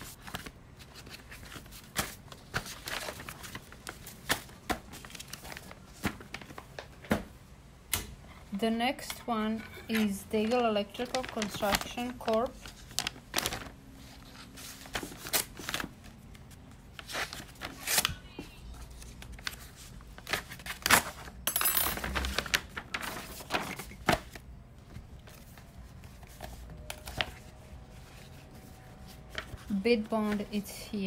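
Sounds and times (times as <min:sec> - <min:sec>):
paper crackling and rustling: 0:00.0 - 0:07.2, 0:09.9 - 0:30.7.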